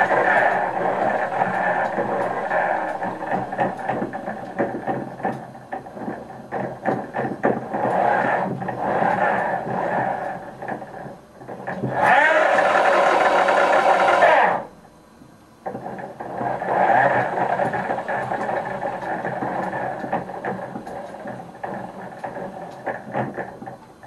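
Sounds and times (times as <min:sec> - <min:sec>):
electric wheel motors whining: 0:00.0 - 0:06.3, 0:07.0 - 0:14.8, 0:16.2 - 0:23.9
rattling clicks and knocks from drive: 0:00.0 - 0:14.2, 0:15.2 - 0:24.0.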